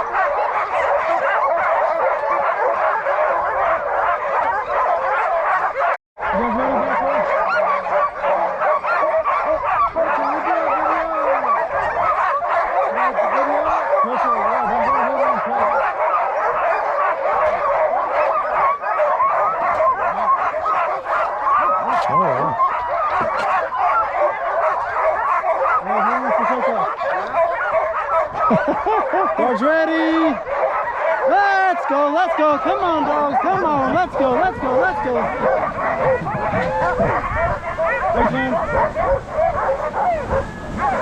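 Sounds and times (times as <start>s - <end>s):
dogs whining: 0.0s - 29.6s, 30.3s - 31.3s, 32.3s - 41.0s
sled dogs barking and yelping: 0.0s - 41.0s.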